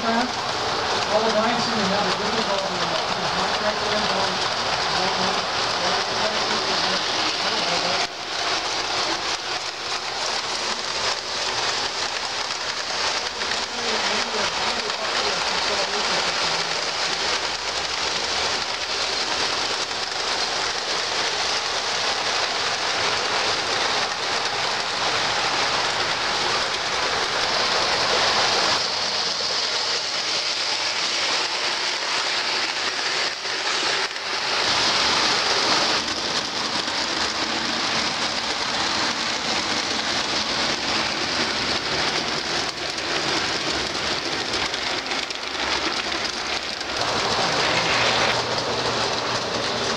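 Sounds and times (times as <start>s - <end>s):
model train wheels rattling: 0.0s - 49.9s.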